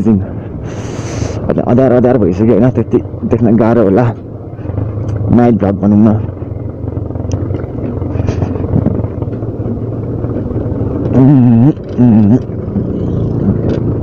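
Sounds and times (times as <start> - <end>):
motorcycle engine running: 1.4 - 14.0.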